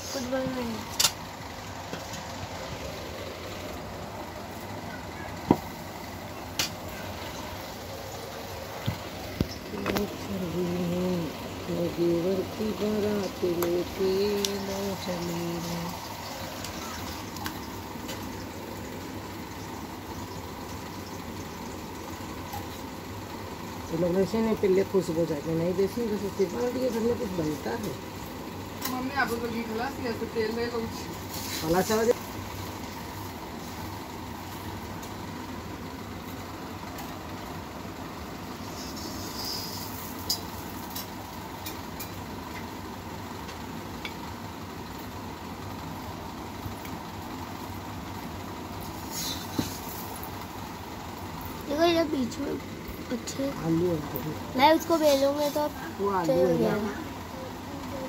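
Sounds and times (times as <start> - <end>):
low hum and hiss: 0.0 - 58.0.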